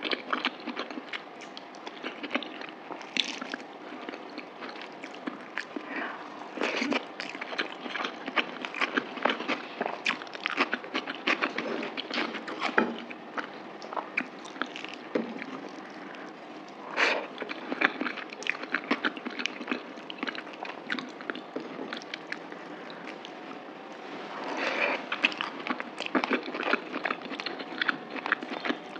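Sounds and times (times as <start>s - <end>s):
chewing and eating: 0.0s - 28.9s.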